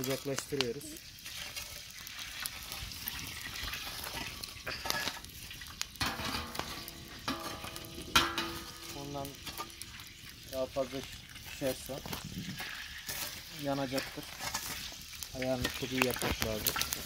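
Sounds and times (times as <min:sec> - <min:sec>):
embers scraping and knocking: 0:00.0 - 0:17.0
wood fire crackling and popping: 0:00.0 - 0:17.0.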